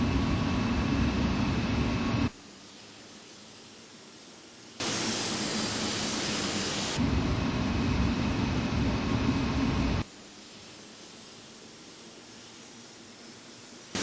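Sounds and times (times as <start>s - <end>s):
jet engine low rumble: 0.0s - 14.0s
jet engines hissing and whining: 0.0s - 14.0s.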